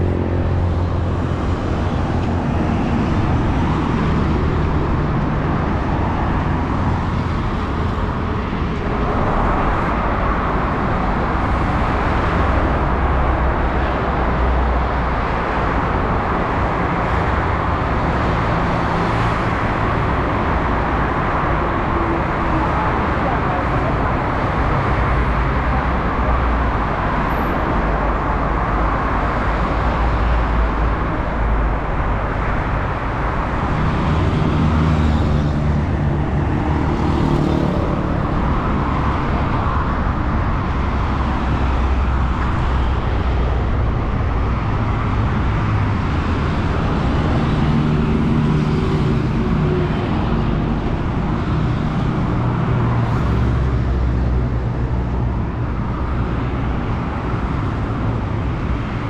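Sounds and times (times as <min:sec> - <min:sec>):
heavy engine drone: 0:00.0 - 0:59.0
highway traffic rumble: 0:00.0 - 0:59.0.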